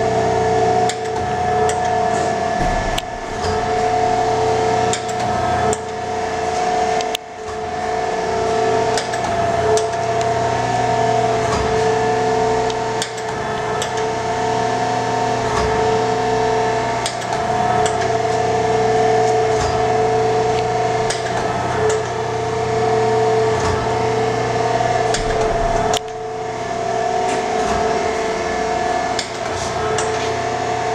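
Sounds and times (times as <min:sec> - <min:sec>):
machinery hum: 0:00.0 - 0:30.9.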